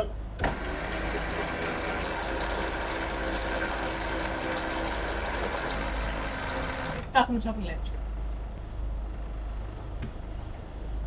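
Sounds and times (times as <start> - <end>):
boat engines humming: 0.0 - 11.0.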